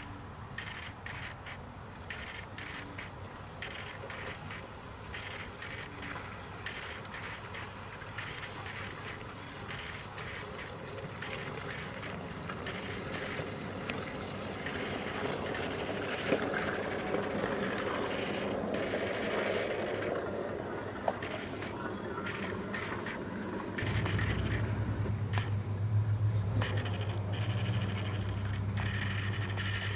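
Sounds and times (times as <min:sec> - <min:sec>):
sharp clicks: 0:00.6 - 0:20.2, 0:21.0 - 0:23.2, 0:23.8 - 0:25.6, 0:26.3 - 0:29.9
model train wheels rattling on rails: 0:00.6 - 0:25.6, 0:26.4 - 0:29.9.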